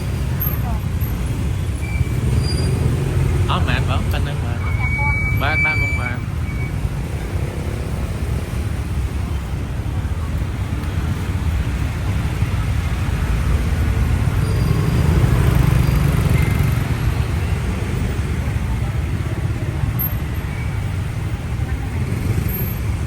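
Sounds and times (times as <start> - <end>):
motorcycle low rumble: 0.0 - 23.0.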